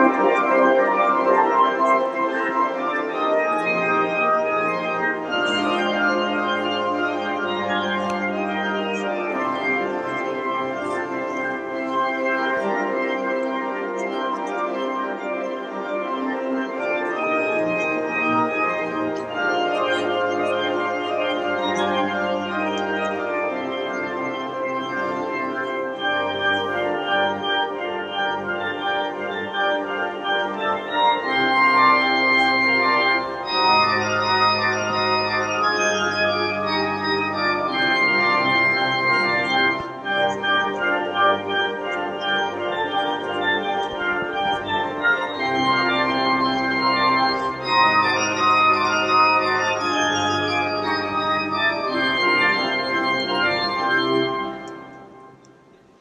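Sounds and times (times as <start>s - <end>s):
held keyboard chords: 0.0s - 56.0s.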